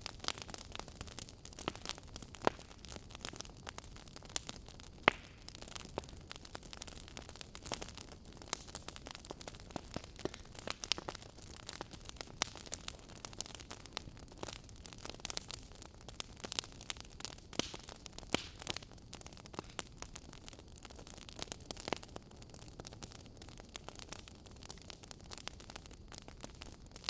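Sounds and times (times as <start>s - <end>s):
soft steady fire hiss: 0.0s - 27.0s
wood fire crackling and popping: 0.0s - 27.0s.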